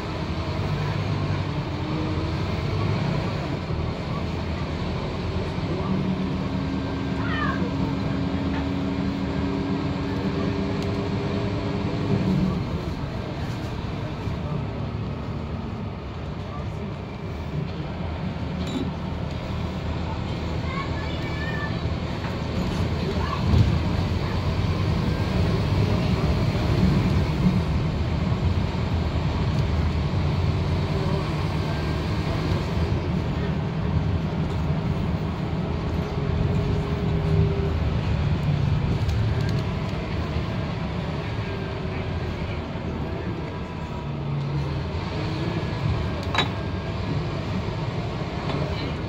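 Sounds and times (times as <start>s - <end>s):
bus engine humming: 0.0s - 49.0s
tyre and road noise: 0.0s - 49.0s.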